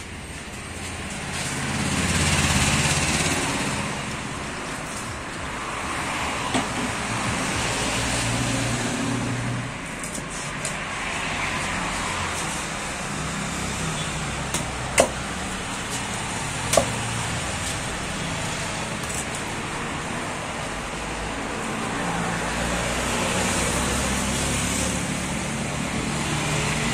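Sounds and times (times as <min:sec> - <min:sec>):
road traffic noise: 0:00.0 - 0:26.9.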